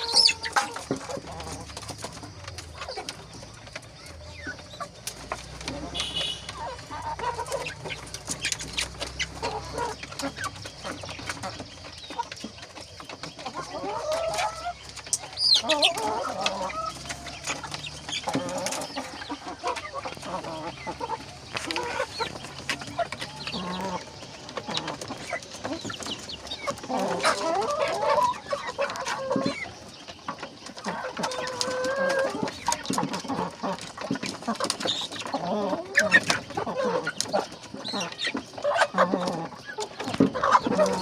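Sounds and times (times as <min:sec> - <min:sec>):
chickens clucking and calling: 0:00.0 - 0:41.0
clicks and scratches: 0:00.0 - 0:41.0.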